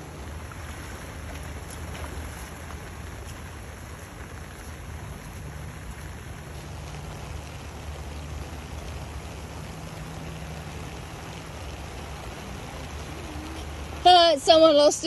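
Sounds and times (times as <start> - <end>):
rain falling on flooded road: 0.0 - 15.0.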